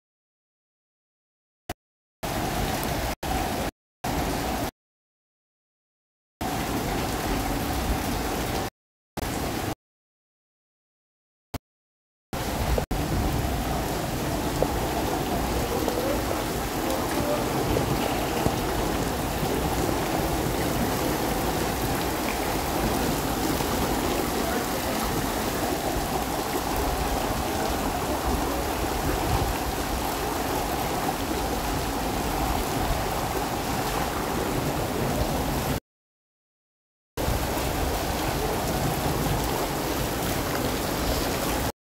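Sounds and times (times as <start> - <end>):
heavy rain on pavement: 2.2 - 4.7, 6.4 - 9.8, 12.4 - 35.8, 37.2 - 41.7.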